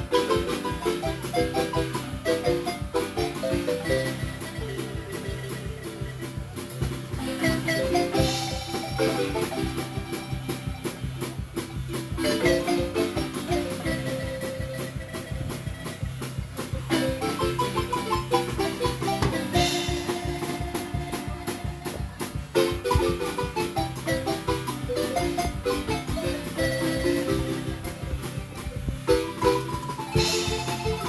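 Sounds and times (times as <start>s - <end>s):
upbeat marimba tune: 0.0s - 31.0s.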